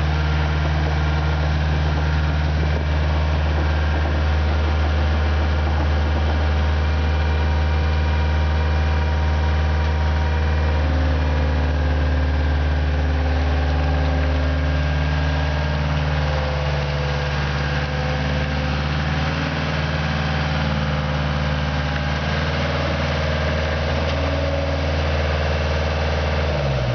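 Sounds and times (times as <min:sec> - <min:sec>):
diesel engine humming: 0:00.0 - 0:26.9.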